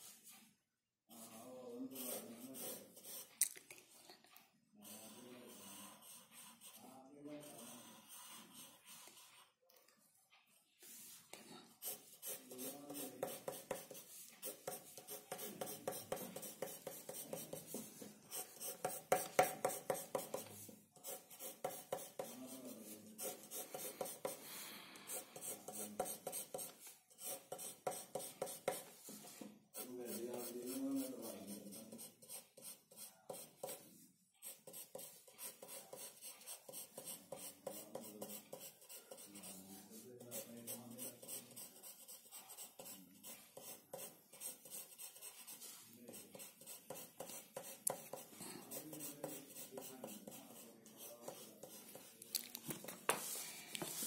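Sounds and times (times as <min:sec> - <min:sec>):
pencil scratching on paper: 0:01.1 - 0:03.4, 0:04.8 - 0:09.6, 0:10.8 - 0:54.0.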